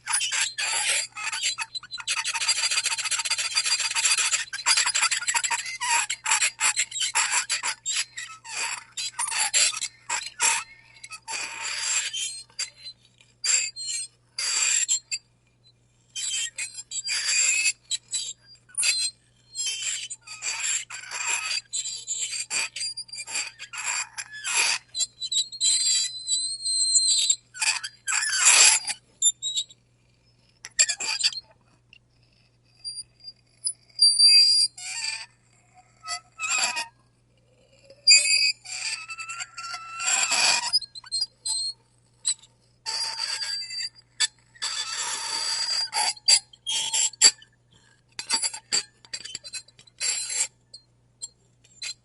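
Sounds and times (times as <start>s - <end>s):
fork scraping plate with squeals: 0.0s - 15.3s, 16.0s - 52.0s.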